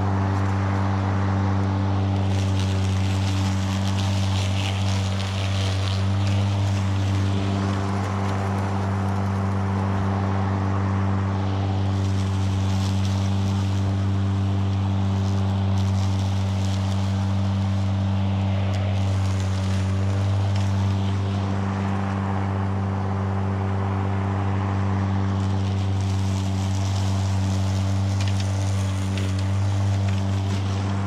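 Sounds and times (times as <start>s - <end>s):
blades cutting grass: 0.0s - 31.0s
lawnmower motor humming: 0.0s - 31.0s.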